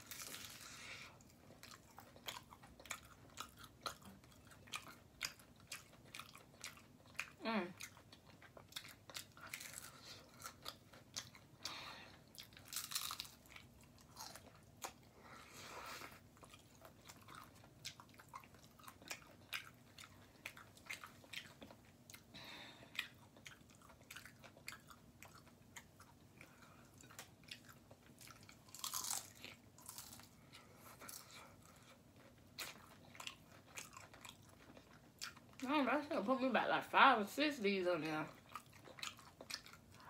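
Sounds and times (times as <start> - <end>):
person chewing food: 0.0 - 35.7, 38.3 - 40.0.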